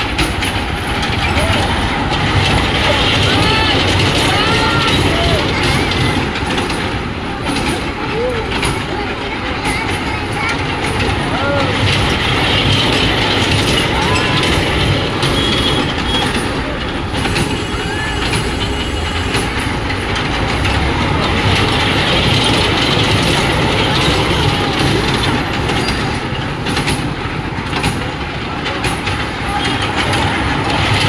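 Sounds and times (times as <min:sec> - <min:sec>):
ride train wheels clattering on rails: 0:00.0 - 0:31.0.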